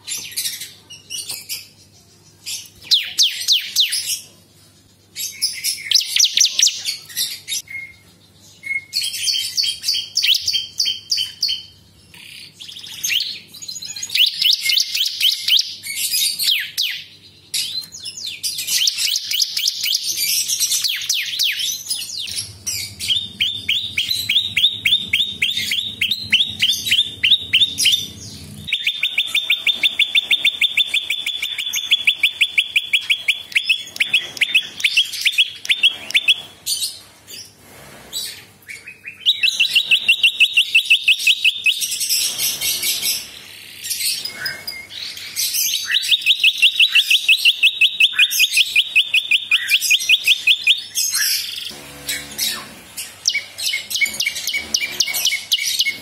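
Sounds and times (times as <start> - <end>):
bird chirping: 0.0 - 56.0
bird singing fast repeated notes: 2.2 - 4.2, 5.0 - 11.8, 12.4 - 17.2, 18.3 - 36.6, 38.9 - 56.0.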